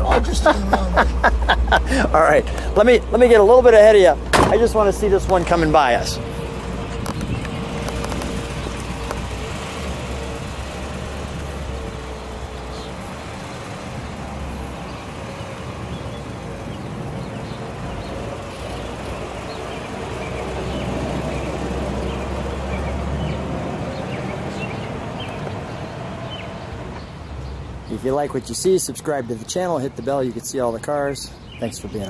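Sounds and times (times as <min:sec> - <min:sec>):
car engine rumbling driving off: 0:00.0 - 0:31.2.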